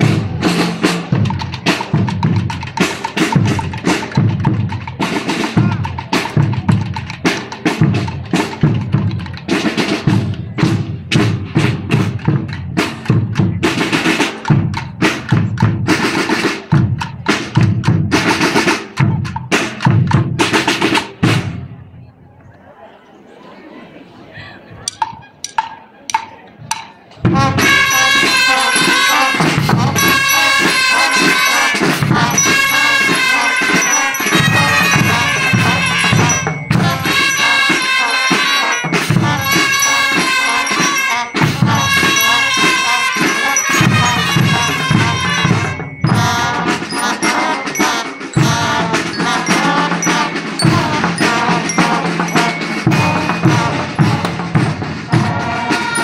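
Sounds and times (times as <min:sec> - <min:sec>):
drum strikes: 0:00.0 - 0:21.7, 0:24.9 - 0:56.0
marching band playing brass and drums: 0:00.0 - 0:22.1, 0:24.9 - 0:56.0.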